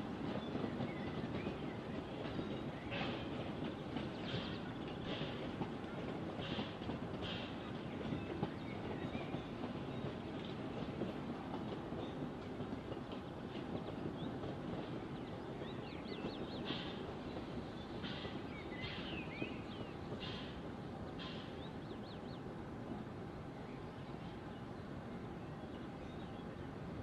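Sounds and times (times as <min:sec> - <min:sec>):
steam train rumbling: 0:00.0 - 0:27.0.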